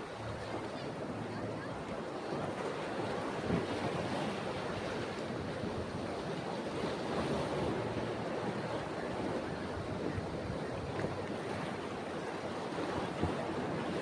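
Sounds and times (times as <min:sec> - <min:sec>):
ocean waves on a beach: 0:00.0 - 0:14.0
wind: 0:00.0 - 0:14.0.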